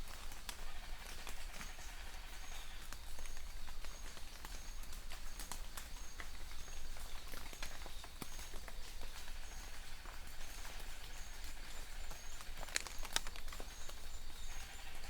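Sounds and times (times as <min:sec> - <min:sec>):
raindrops clicking on hard surface: 0:00.0 - 0:14.9.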